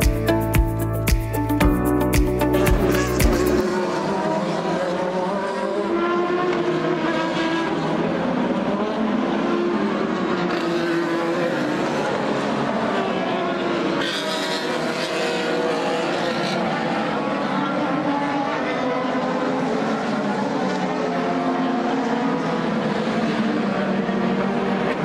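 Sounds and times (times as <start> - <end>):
race car engines accelerating: 2.8 - 25.0.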